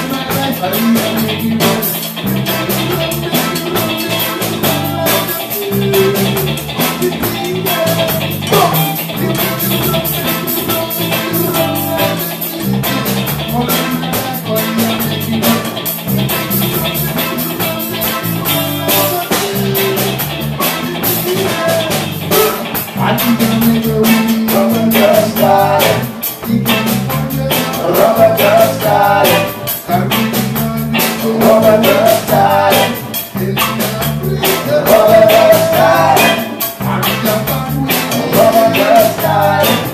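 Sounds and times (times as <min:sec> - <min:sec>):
man singing into a microphone: 0:00.0 - 0:15.9, 0:16.7 - 0:39.9
reggae band playing: 0:00.0 - 0:39.9.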